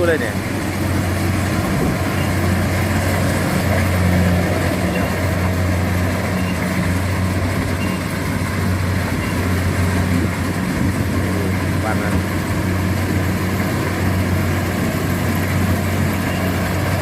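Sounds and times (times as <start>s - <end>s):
combine harvester engine running: 0.0s - 17.0s
machinery noise: 0.0s - 17.0s.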